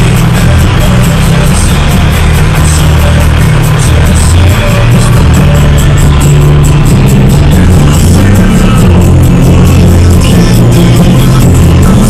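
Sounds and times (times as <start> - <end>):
loud electronic music: 0.0 - 12.0.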